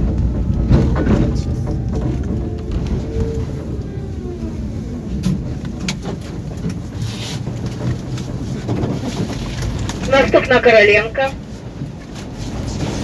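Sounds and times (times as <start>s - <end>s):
tram wheels rumbling: 0.0s - 13.0s.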